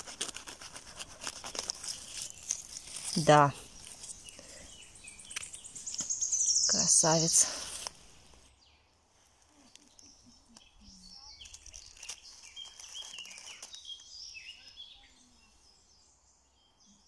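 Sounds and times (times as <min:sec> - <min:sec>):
dry leaves rustling: 0:00.0 - 0:08.5, 0:09.1 - 0:15.0
birds chirping and twittering: 0:00.4 - 0:17.0.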